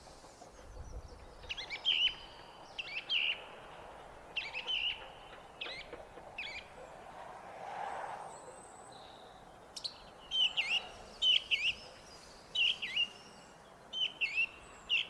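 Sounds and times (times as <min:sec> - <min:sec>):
song thrush singing: 0:00.0 - 0:06.8, 0:08.4 - 0:15.0.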